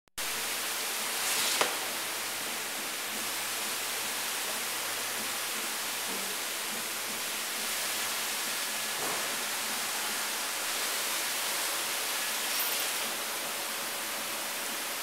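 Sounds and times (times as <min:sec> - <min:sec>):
water spraying hiss: 0:00.3 - 0:15.0.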